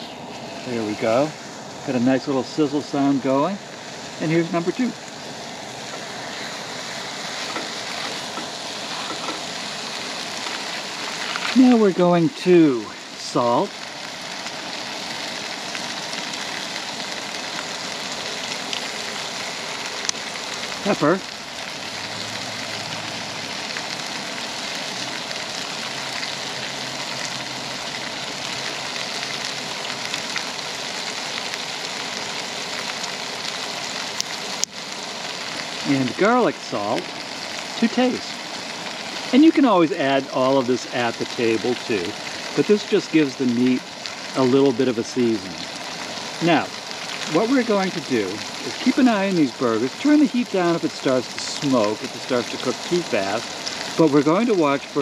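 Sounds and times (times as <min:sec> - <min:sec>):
patties sizzling in a frying pan: 0:00.3 - 0:55.0.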